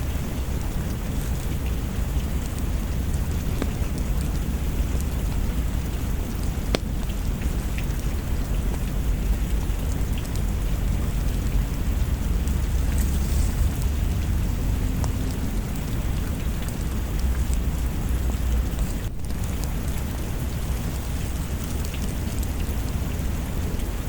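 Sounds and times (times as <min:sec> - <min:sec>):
deep low rumble: 0:00.0 - 0:24.0
steady rain: 0:00.0 - 0:24.0.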